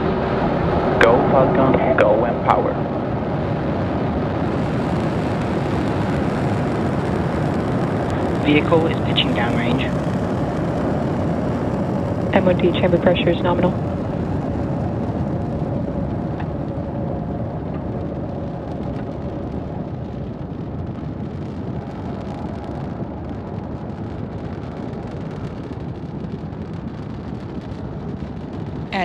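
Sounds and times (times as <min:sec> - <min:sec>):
crackling rocket engine rumble: 0:00.0 - 0:29.0.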